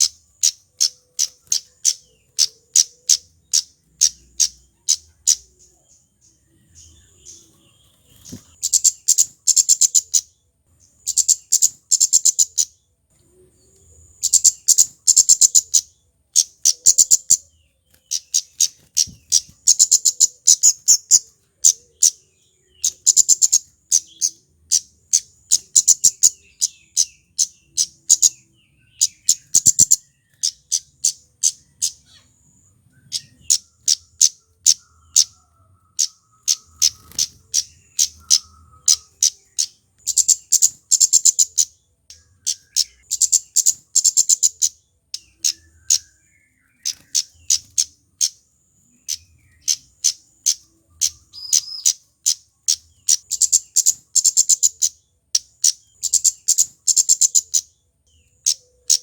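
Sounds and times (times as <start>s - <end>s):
bird high tsit calls: 0.0s - 59.0s.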